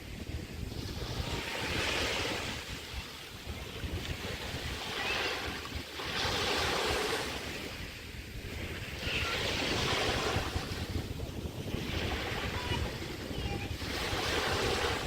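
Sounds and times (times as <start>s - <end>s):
small waves breaking on shore: 0.0s - 15.0s
wind rumble on microphone: 0.0s - 15.0s.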